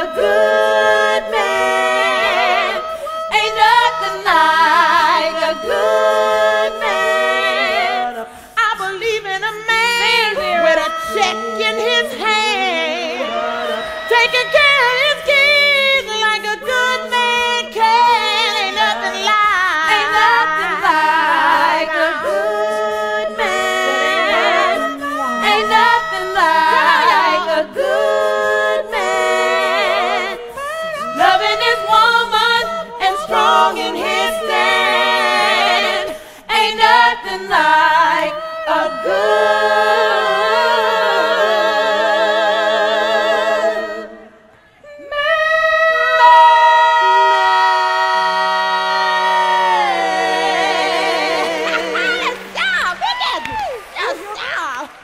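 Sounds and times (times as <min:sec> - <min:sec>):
unaccompanied group singing: 0:00.0 - 0:53.8.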